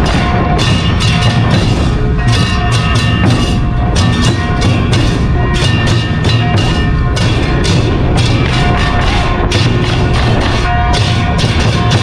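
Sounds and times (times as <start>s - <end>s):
rapid drumbeat: 0.0s - 12.0s.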